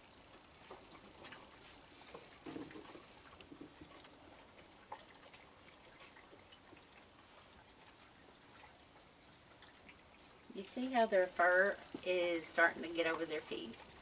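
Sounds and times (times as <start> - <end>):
raccoons eating kibble: 0.0 - 14.0.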